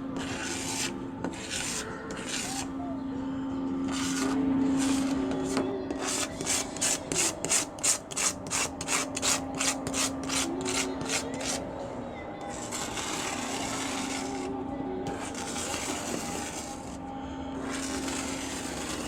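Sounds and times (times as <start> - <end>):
blade scraping painted panel: 0.0 - 2.9, 3.5 - 11.8, 12.4 - 19.0
steady low hum: 0.0 - 19.0.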